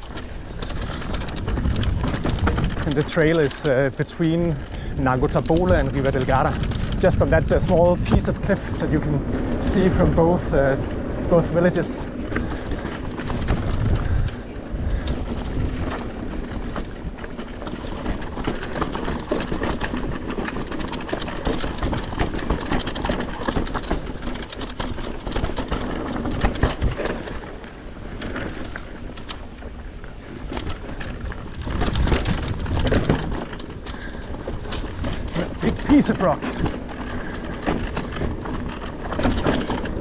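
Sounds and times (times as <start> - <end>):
bike clicks and rattles: 0.0 - 40.0
tyres crunching over stone: 0.0 - 40.0.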